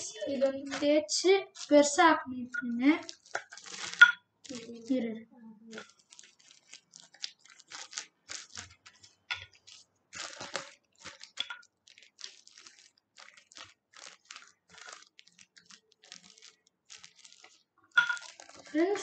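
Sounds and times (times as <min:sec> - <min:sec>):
plastic sheet crinkling: 0:00.0 - 0:19.0.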